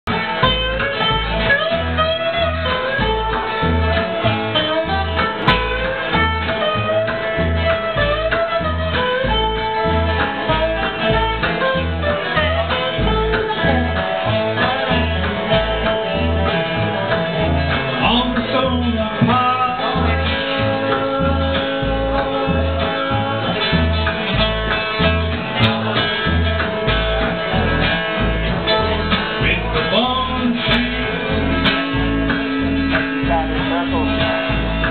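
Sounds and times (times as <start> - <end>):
acoustic guitar: 0.0 - 34.9
mandolin: 0.0 - 34.9
upright bass plucking: 0.0 - 34.9.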